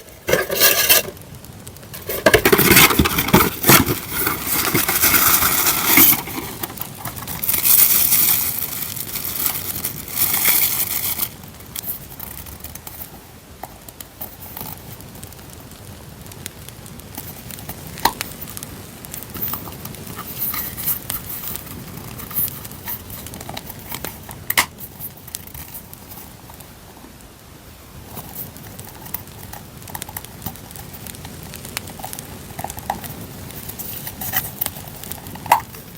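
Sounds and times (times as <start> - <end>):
paper and packaging crinkling: 0.0 - 15.6, 17.2 - 26.7, 28.1 - 35.9
campfire crackling: 0.0 - 35.9.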